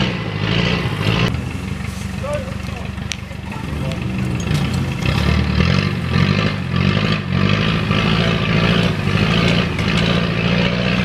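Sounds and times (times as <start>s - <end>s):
car engine revving hard: 0.0s - 2.4s, 3.5s - 11.0s.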